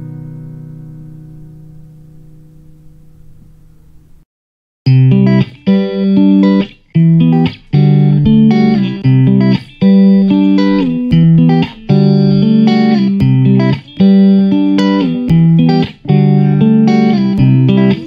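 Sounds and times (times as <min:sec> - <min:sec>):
instrumental music with held chords: 0:00.0 - 0:04.2, 0:04.9 - 0:18.0.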